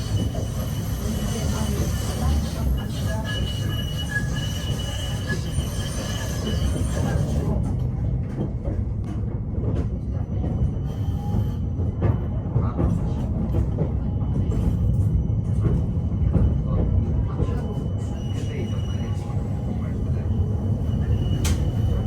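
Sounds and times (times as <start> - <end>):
tram rumbling along track: 0.0 - 22.0.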